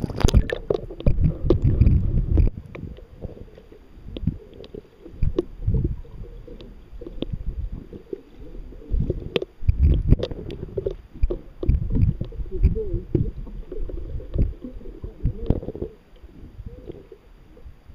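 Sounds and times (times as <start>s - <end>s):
muffled underwater rumble and sloshing: 0.0s - 17.9s.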